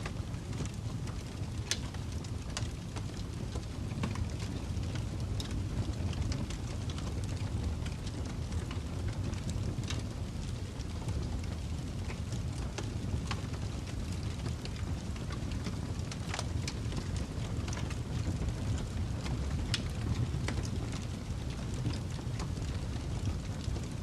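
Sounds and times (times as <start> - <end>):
burning wood crackles and pops: 0.0 - 24.0
fire low rumble: 0.0 - 24.0.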